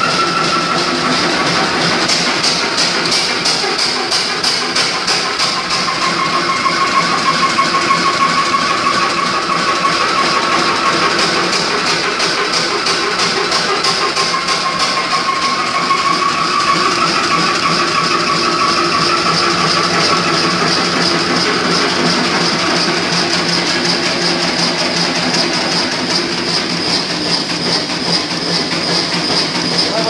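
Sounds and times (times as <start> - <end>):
oil engine running: 0.0 - 30.0.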